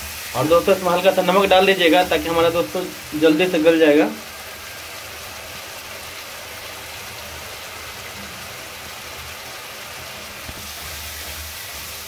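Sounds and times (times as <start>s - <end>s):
food sizzling in hot oil: 0.0s - 12.0s
low gas burner rumble: 0.0s - 12.0s.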